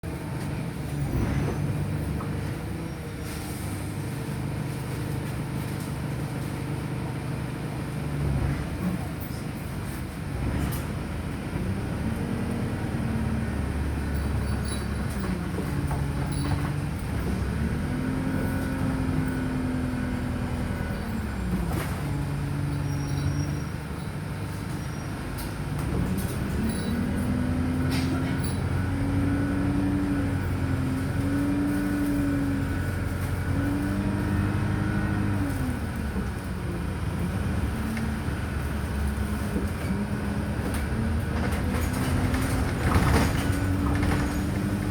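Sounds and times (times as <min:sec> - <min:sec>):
bus diesel engine: 0:00.0 - 0:44.9.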